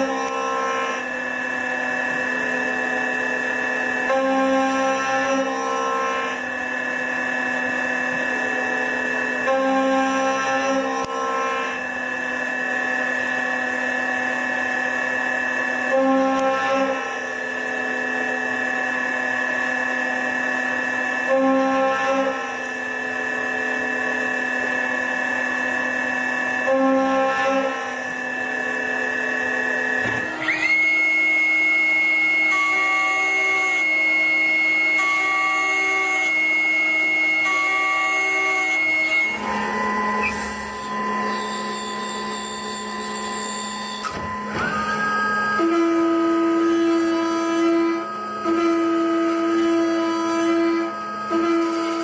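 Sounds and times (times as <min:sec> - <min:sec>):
machine spindle whine: 0:00.0 - 0:52.0.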